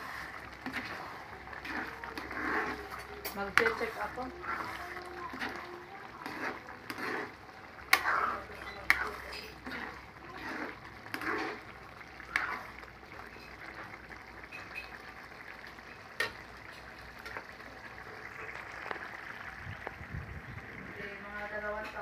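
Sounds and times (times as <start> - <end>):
stew bubbling and sizzling in pan: 0.0 - 22.0.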